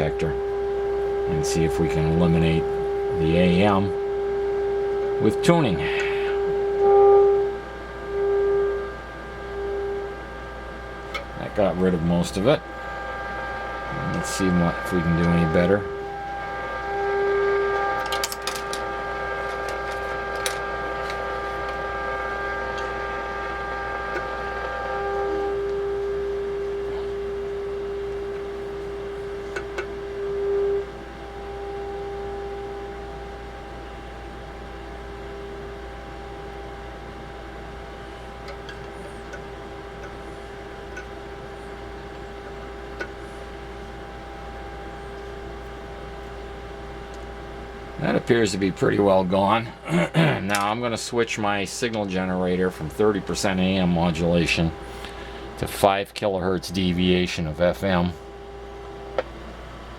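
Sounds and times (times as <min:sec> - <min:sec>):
low hum: 0:00.0 - 0:55.8
steady audio tone: 0:00.0 - 0:59.9.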